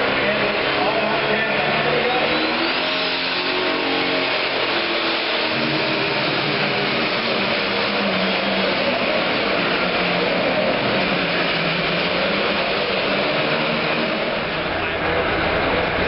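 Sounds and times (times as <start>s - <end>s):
diesel engine roaring at high revs: 0.0s - 16.0s.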